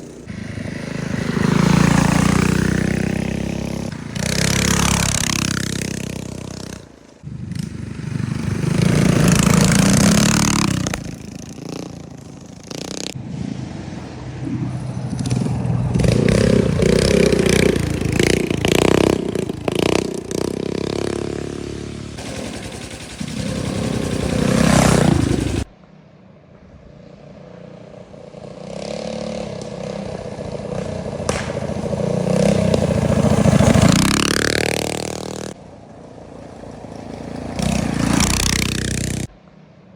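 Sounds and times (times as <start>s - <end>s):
bike rattling and scraping: 0.0s - 25.8s, 26.9s - 39.4s
minibike engines revving: 0.0s - 25.8s, 26.9s - 39.4s.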